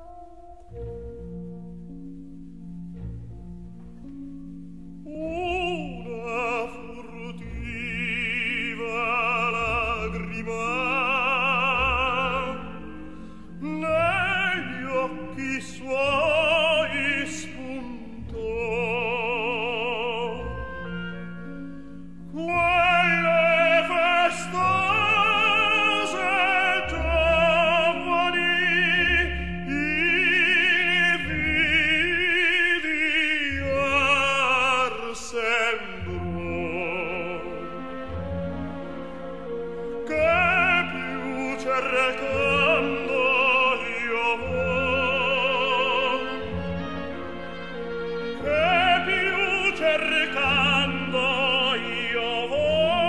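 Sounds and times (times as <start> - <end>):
orchestral accompaniment: 0.0 - 53.0
operatic singing: 5.0 - 21.6, 22.2 - 53.0.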